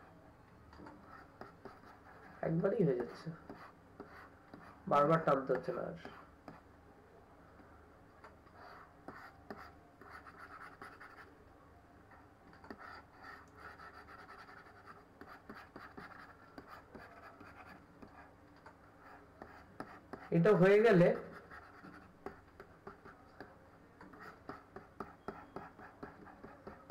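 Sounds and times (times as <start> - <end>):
stylus scratching on tablet: 1.0 - 6.7, 8.4 - 11.4, 12.1 - 26.9.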